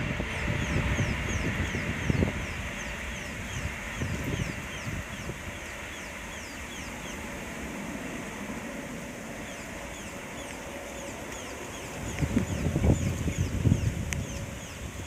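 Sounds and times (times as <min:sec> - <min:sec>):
steady outdoor hiss: 0:00.0 - 0:15.0
bird chirping: 0:00.3 - 0:07.2, 0:09.4 - 0:15.0.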